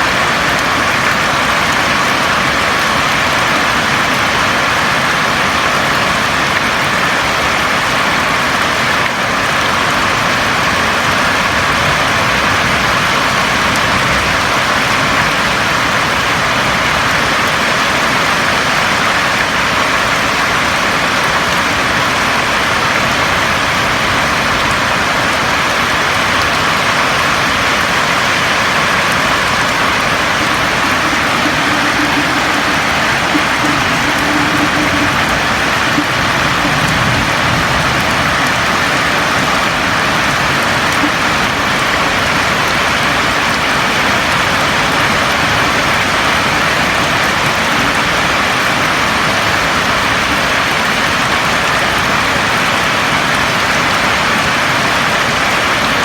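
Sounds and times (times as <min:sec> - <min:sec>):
rain on a roof: 0:00.0 - 0:56.0.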